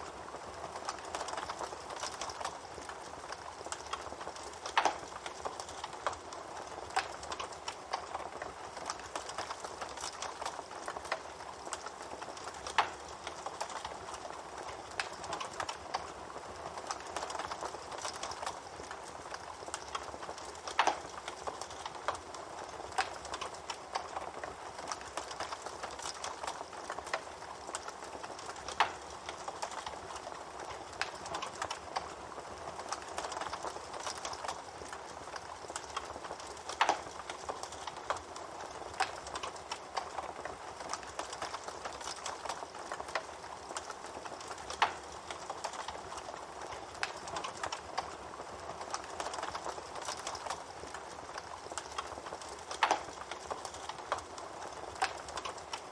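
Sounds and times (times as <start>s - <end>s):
campfire crackling: 0.0s - 55.9s.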